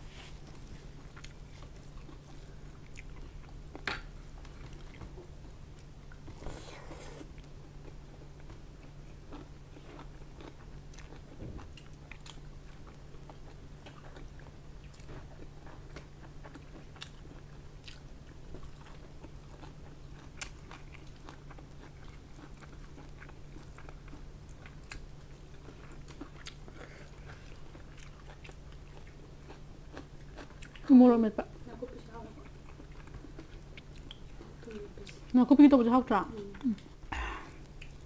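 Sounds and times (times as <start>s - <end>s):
steady low hum: 0.0s - 38.0s
wet chewing and mouth smacks: 0.5s - 5.1s, 7.2s - 30.9s, 32.4s - 35.3s, 36.4s - 38.0s.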